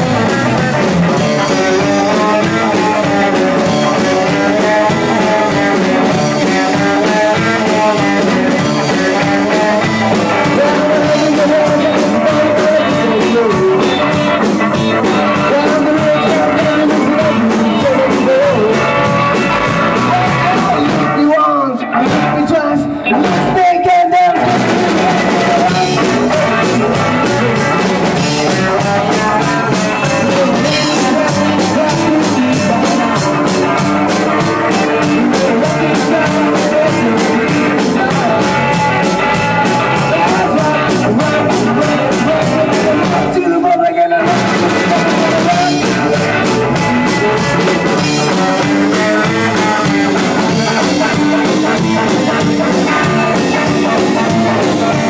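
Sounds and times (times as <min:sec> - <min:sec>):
drum kit with cymbals: 0:00.0 - 0:21.4, 0:24.4 - 0:55.0
electric guitars: 0:00.0 - 0:55.0
rockabilly band playing: 0:00.0 - 0:55.0.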